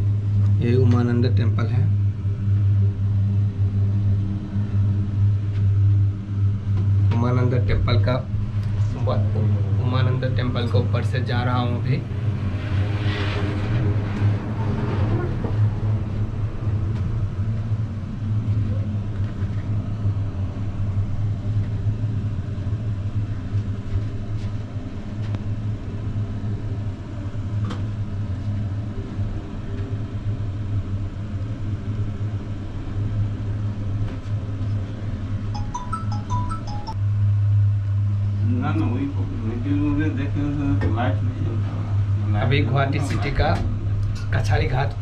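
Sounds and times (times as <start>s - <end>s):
cable car cabin drone: 0.0s - 45.0s.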